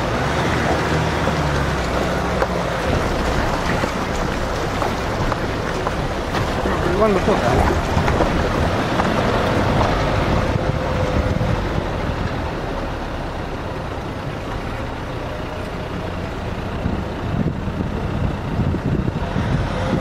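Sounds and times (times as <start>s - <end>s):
tyres rumbling over rough ground: 0.0s - 20.0s
vehicle engine running: 0.0s - 20.0s.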